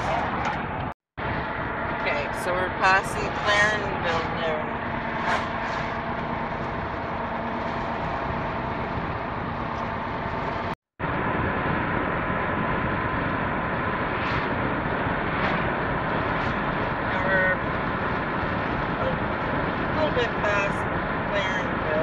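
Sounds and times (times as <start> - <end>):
van road and engine noise: 0.0 - 22.0.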